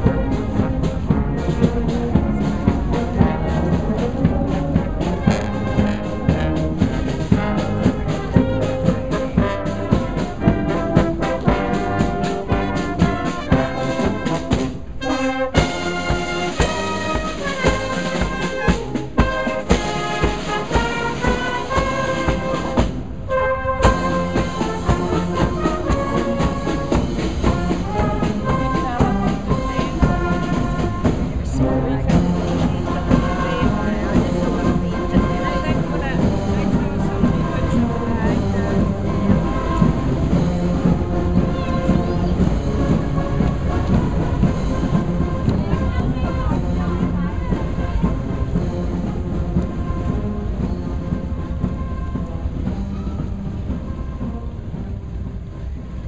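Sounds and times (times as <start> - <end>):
bass drum and side drums: 0.0 - 56.0
cornets and tenor horns playing: 0.0 - 56.0.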